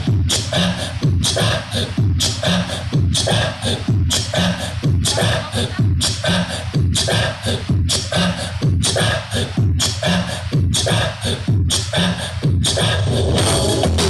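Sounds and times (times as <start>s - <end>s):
dance music with heavy bass: 0.0s - 14.0s.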